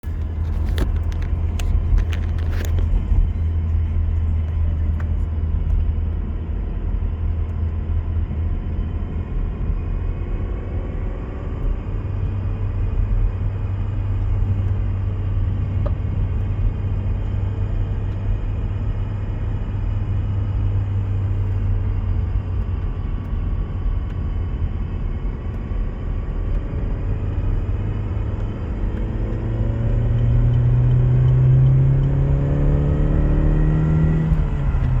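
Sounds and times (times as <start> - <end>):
car driving with low drone: 0.0 - 35.0.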